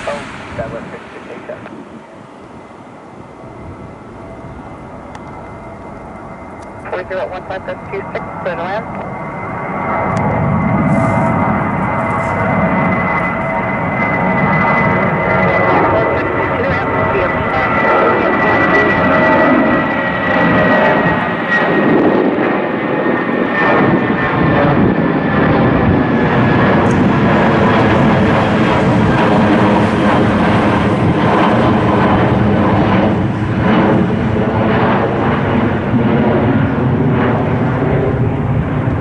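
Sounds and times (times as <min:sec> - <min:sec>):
high engine whine: 0:00.0 - 0:39.0
jet airliner passing: 0:00.0 - 0:39.0.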